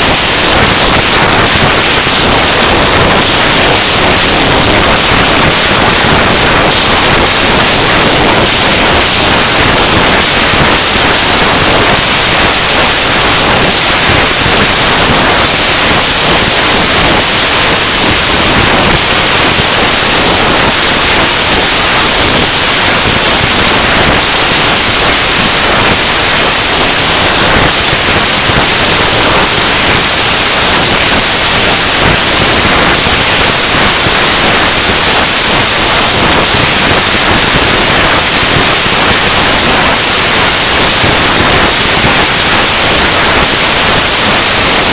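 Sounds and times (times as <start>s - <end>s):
harsh noise music hiss: 0.0s - 44.9s.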